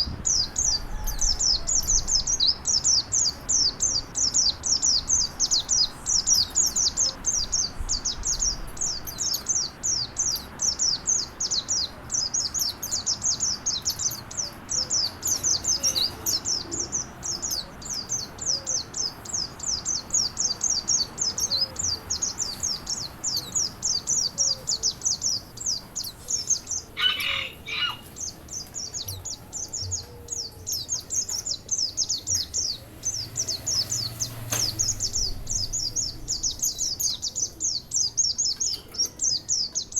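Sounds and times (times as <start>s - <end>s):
small bird singing: 0.0s - 39.9s.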